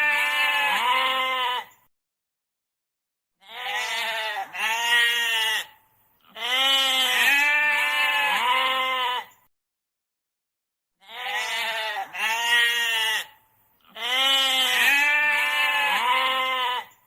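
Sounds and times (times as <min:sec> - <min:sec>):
goat bleating: 0:00.0 - 0:01.8, 0:03.4 - 0:09.4, 0:11.0 - 0:17.0.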